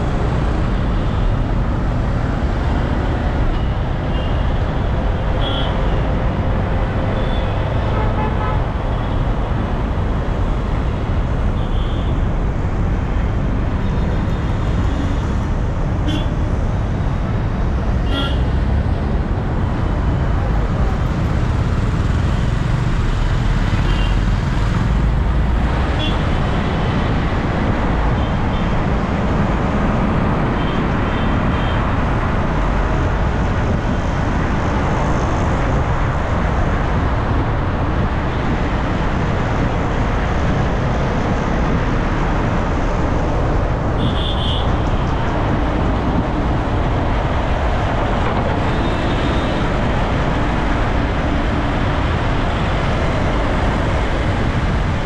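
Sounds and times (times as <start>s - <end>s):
city traffic rumbling: 0.0s - 55.0s.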